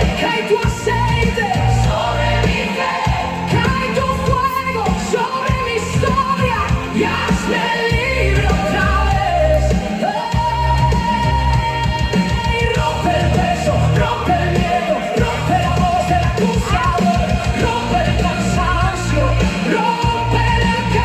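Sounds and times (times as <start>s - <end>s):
heavy bass: 0.0s - 21.0s.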